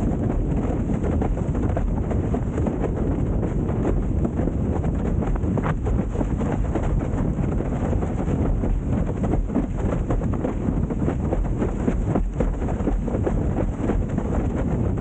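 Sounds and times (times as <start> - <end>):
water rushing under a board: 0.0 - 15.0
wind buffeting microphone: 0.0 - 15.0.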